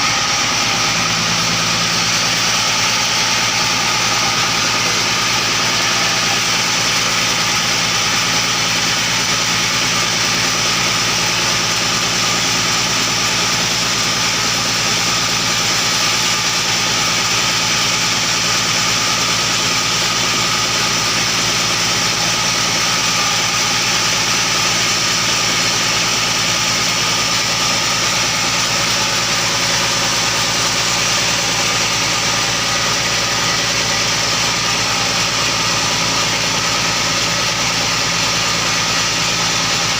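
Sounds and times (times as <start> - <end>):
sawmill engine running steadily: 0.0 - 39.9.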